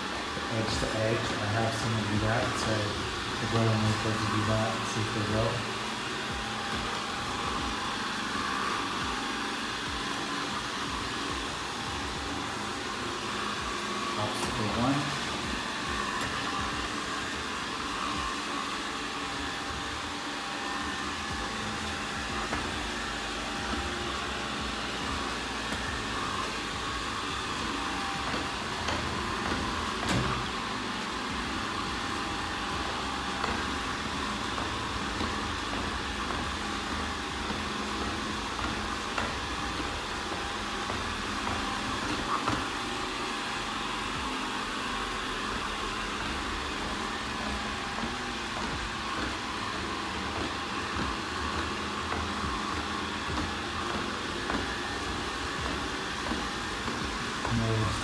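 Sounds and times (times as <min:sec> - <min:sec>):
robot vacuum whirring: 0:00.0 - 0:58.0.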